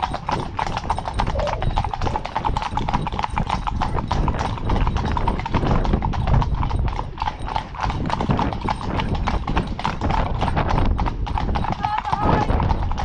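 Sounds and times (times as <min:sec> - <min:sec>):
hooves clip-clopping on tarmac: 0:00.0 - 0:13.0.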